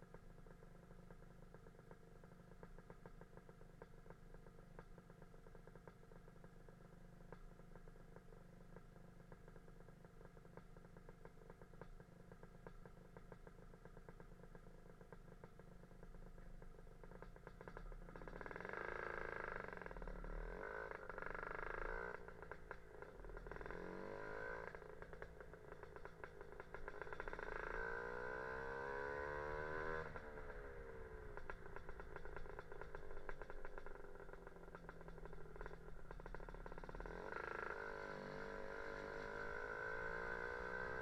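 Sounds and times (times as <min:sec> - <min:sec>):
scooter engine idling and revving: 0:00.0 - 0:41.0.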